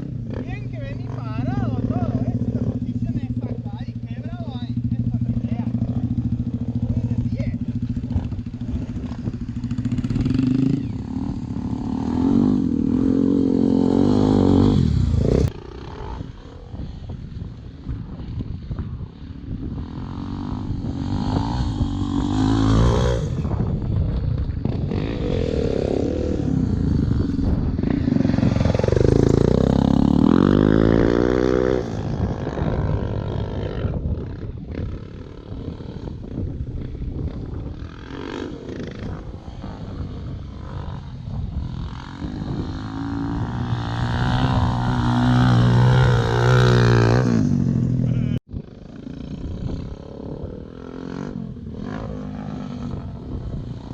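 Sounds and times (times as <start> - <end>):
dirt bike passing close: 0.0 - 53.9
dirt bikes revving: 0.0 - 53.9.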